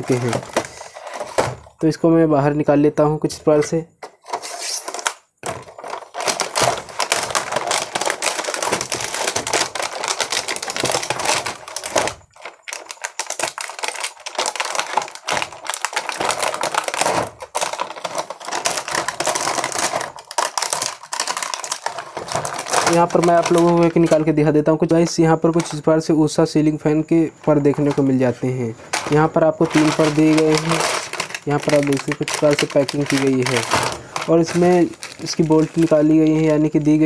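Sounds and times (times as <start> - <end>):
plastic wrapping crinkling: 0.0 - 1.9, 4.2 - 26.0, 27.2 - 37.0.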